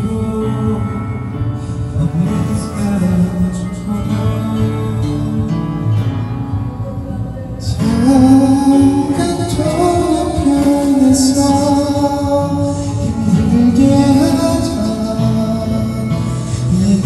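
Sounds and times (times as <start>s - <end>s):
karaoke backing track: 0.0s - 17.0s
person singing ballad: 0.0s - 17.0s.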